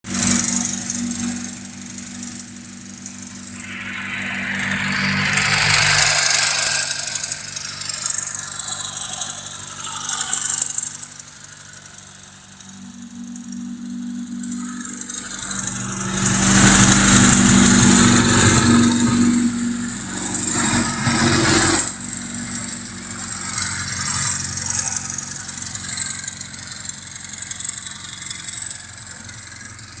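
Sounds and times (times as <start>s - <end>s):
car engine revving with knock: 0.0s - 30.0s.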